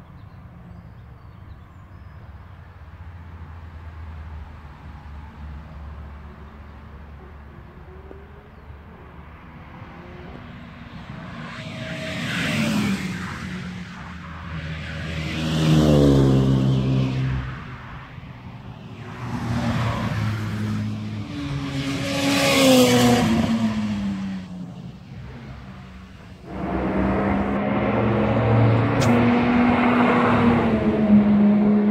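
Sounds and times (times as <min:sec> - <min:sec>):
cars passing at speed: 0:02.2 - 0:31.9.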